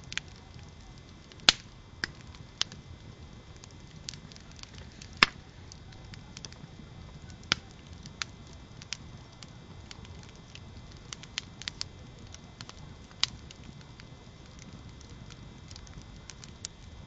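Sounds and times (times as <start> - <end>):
campfire crackling and popping: 0.0 - 17.0
low rush of flames: 0.0 - 17.0.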